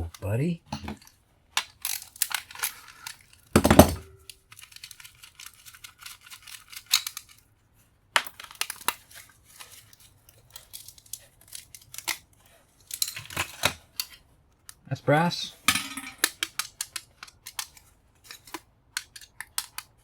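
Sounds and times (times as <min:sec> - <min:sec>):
metal parts clicking and scraping: 0:00.7 - 0:07.4, 0:08.2 - 0:14.2, 0:15.6 - 0:20.0.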